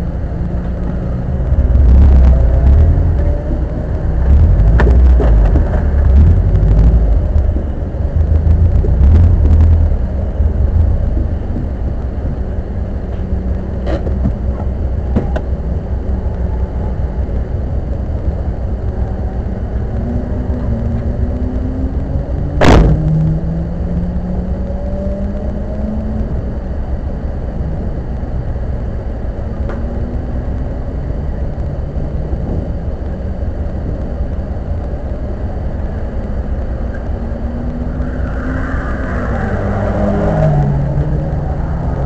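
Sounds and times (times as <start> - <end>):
car engine rising: 0.0 - 42.0
road rumble: 0.0 - 42.0.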